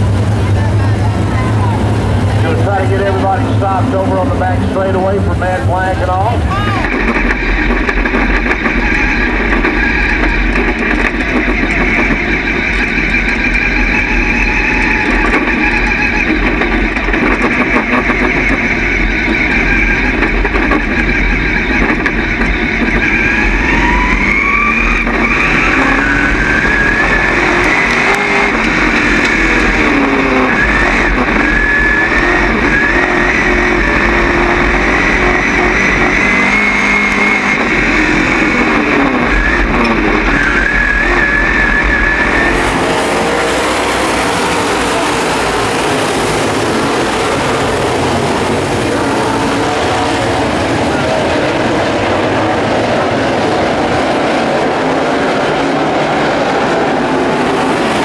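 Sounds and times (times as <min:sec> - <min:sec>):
race car engine running: 0:00.0 - 0:58.0.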